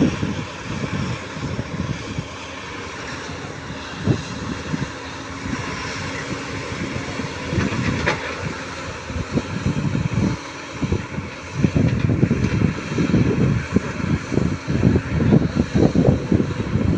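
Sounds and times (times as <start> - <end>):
diesel machinery running: 0.0 - 16.9.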